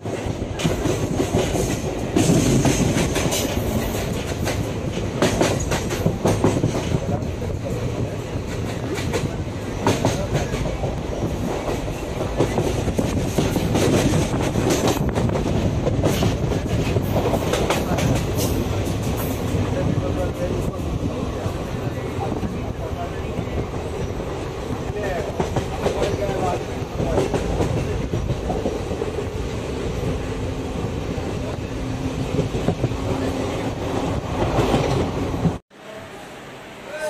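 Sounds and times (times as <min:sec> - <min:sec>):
train wheels rumbling on rail: 0:00.0 - 0:35.6.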